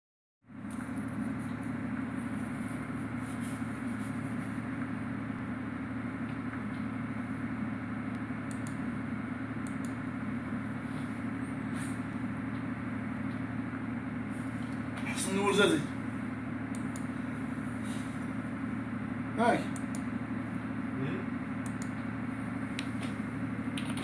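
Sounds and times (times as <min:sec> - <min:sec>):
low machinery hum: 0:00.5 - 0:24.0.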